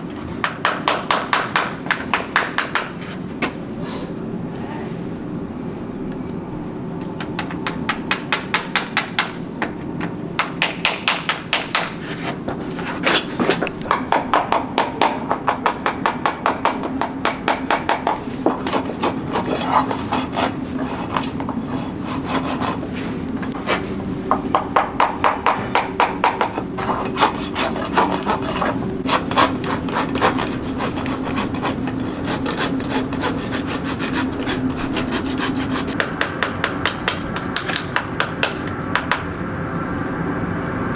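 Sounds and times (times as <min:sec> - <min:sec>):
rasp and hammer on hoof: 0:00.4 - 0:03.4, 0:07.0 - 0:23.9, 0:25.0 - 0:38.7.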